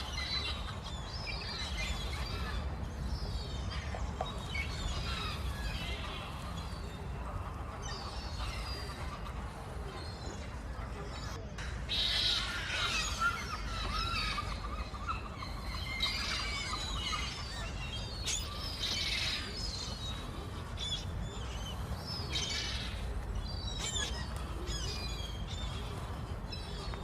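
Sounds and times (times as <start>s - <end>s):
low outdoor rumble: 0.0s - 27.0s
small birds chirping: 0.0s - 27.0s.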